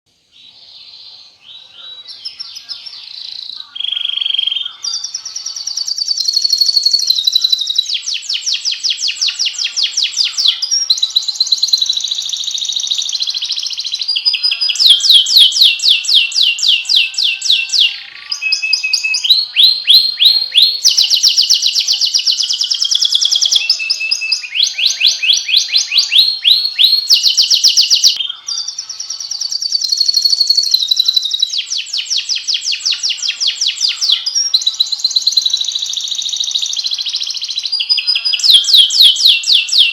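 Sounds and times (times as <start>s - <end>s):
canary singing trills: 0.1s - 39.9s.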